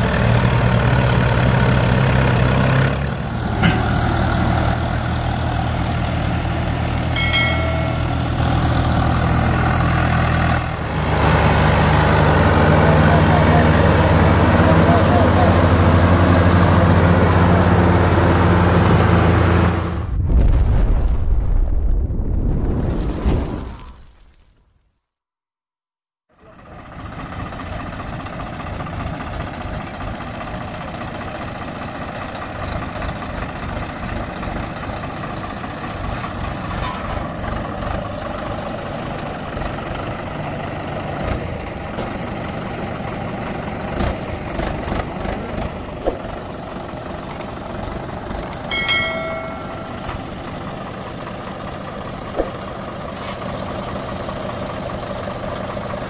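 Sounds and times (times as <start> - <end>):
diesel tractor engines running: 0.0 - 20.1, 26.4 - 56.0.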